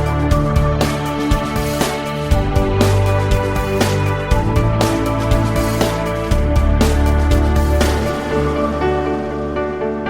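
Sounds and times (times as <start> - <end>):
calm instrumental music: 0.0 - 10.0.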